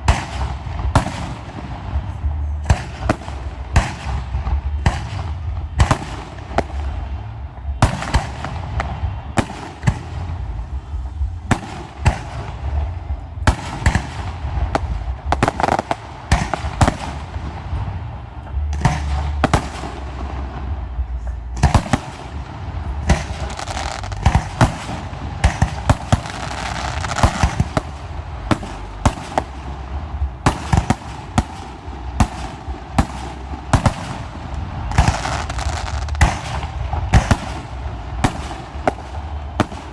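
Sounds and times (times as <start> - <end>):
continuous crackling rumble: 0.0 - 39.9.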